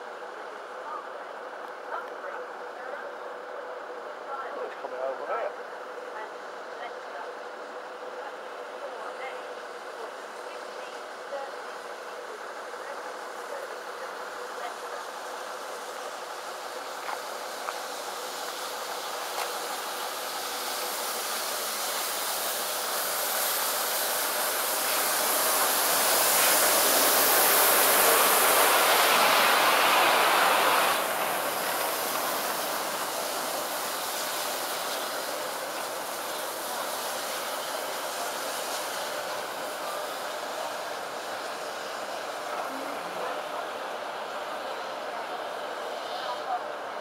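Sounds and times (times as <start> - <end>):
steam locomotive hiss: 5.5 - 47.0.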